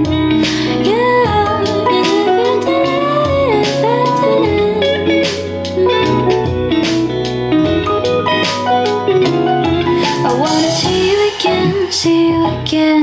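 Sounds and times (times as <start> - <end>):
guitar-led music over a beat: 0.0 - 13.0.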